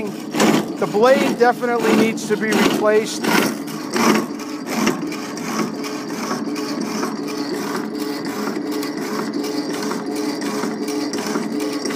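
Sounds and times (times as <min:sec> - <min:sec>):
power hacksaw cutting steel: 0:00.0 - 0:11.9.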